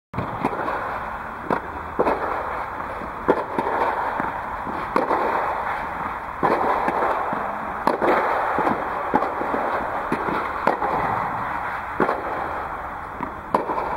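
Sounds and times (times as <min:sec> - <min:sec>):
steady background noise: 0:00.2 - 0:13.9
balls bouncing on court: 0:01.4 - 0:12.4, 0:13.1 - 0:13.9.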